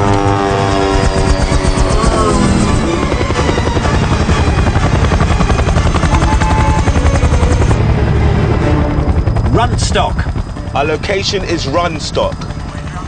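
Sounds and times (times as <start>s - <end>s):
falling whine: 0.0s - 12.7s
engine drone: 0.0s - 13.0s
helicopter rotor beating: 0.0s - 13.0s.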